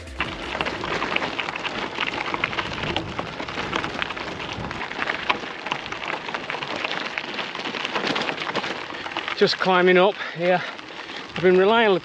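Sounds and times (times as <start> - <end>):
bicycle tyres crunching gravel: 0.0 - 12.0.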